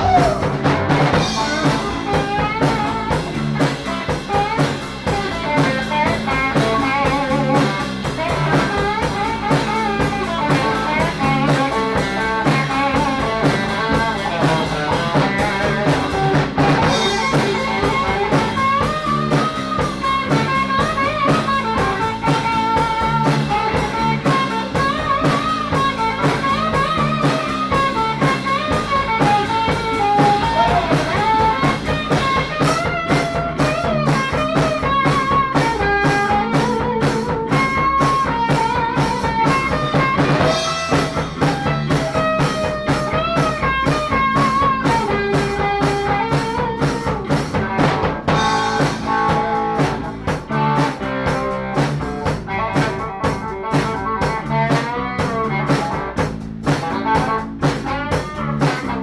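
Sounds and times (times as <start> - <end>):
drum kit with cymbals: 0.0 - 59.0
guitar-led music: 0.0 - 59.0.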